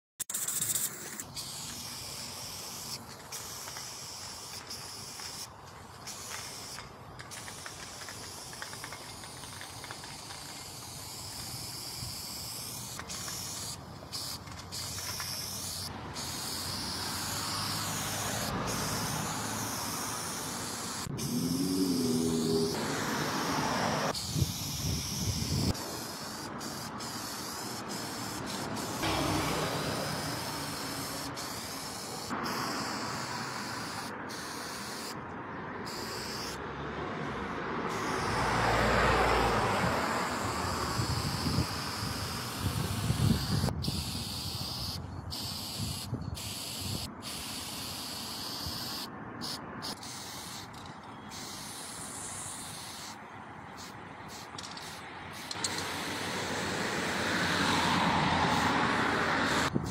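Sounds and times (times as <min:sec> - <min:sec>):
spray paint cans hissing: 0:00.2 - 0:36.6, 0:37.8 - 0:59.9
road traffic: 0:00.2 - 0:59.9.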